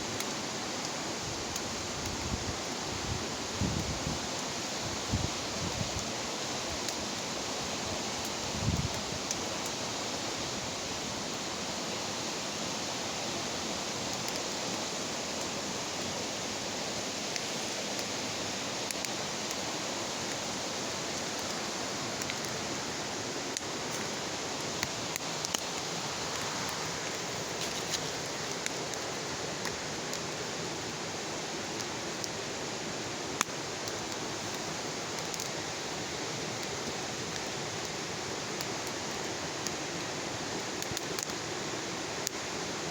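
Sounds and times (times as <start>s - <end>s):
bonfire hissing: 0.0s - 42.9s
fire crackles and pops: 0.0s - 42.9s.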